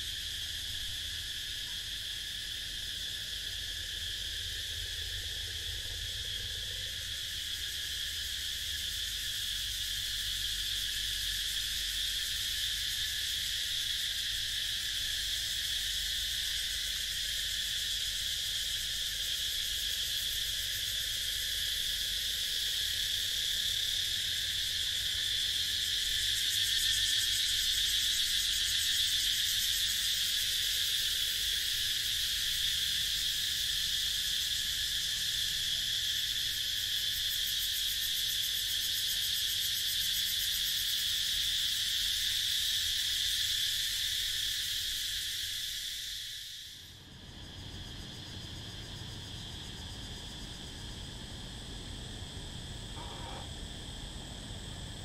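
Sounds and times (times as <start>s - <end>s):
insects buzzing chorus: 0.0s - 55.0s.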